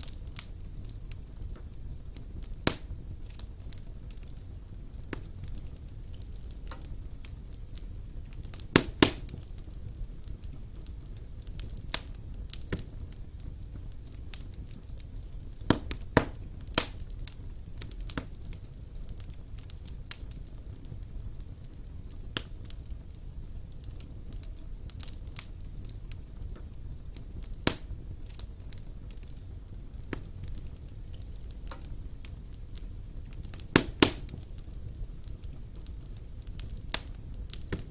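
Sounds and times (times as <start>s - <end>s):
burning logs crackling and popping: 0.0s - 37.9s
flames rumbling: 0.0s - 37.9s.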